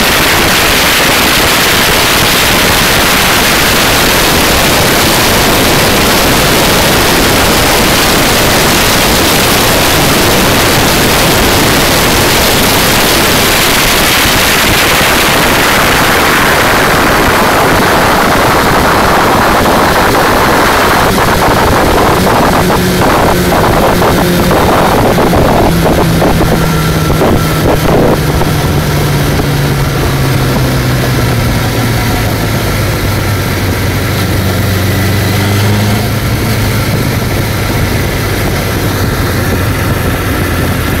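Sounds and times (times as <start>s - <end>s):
motorcycle engine running hard: 0.0s - 41.0s
wind buffeting microphone: 0.0s - 41.0s.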